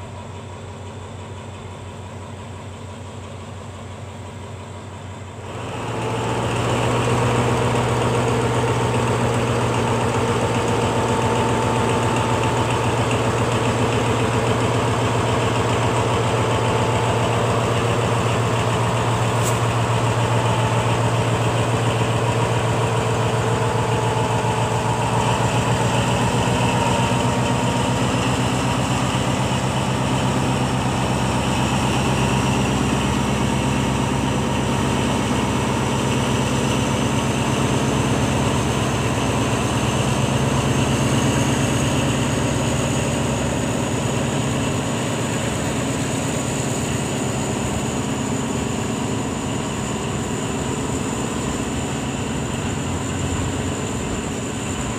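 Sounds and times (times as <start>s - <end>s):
diesel locomotive engine drone: 0.0s - 54.9s.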